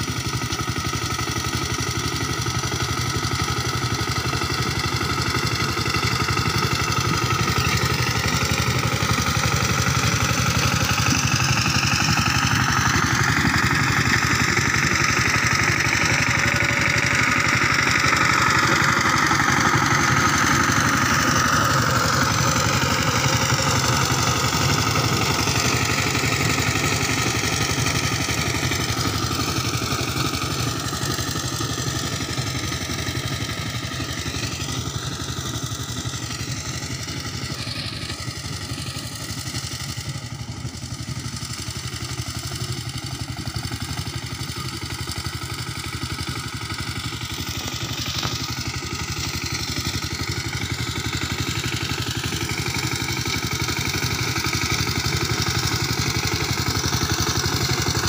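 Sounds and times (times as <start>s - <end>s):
diesel tiller engine running: 0.0s - 58.0s.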